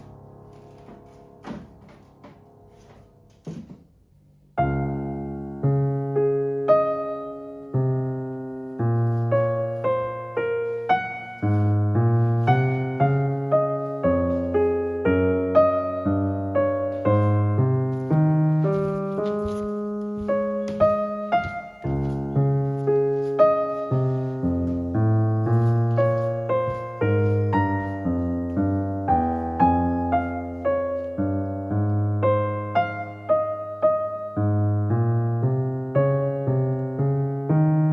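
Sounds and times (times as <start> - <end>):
electric piano tune: 0.0 - 3.6, 4.5 - 37.9.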